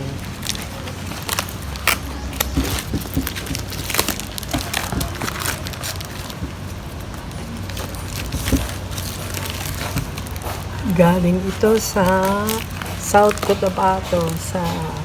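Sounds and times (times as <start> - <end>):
steady low hum: 0.0 - 15.0
packaging crinkling: 0.2 - 15.0.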